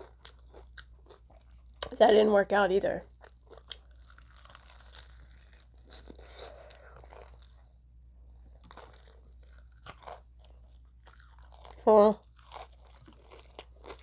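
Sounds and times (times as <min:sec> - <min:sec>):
person chewing: 0:00.0 - 0:02.0, 0:03.1 - 0:07.7, 0:08.4 - 0:14.0.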